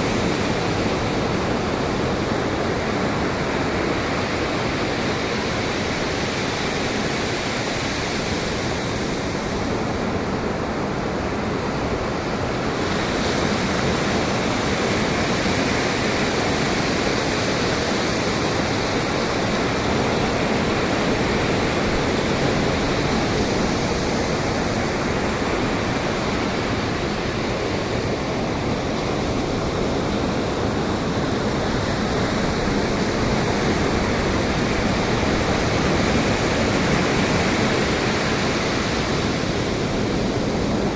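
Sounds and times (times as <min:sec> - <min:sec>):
ocean surf washing: 0:00.0 - 0:40.9
wind: 0:00.0 - 0:40.9.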